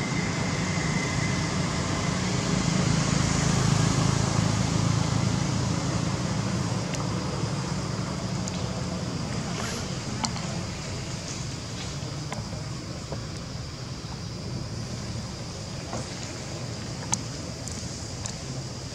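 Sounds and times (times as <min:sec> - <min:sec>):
low outdoor rumble: 0:00.0 - 0:18.9.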